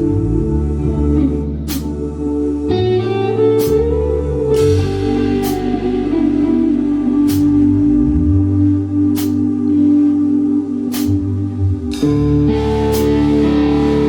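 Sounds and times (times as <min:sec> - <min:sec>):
guitars and bass playing chords: 0:00.0 - 0:14.0.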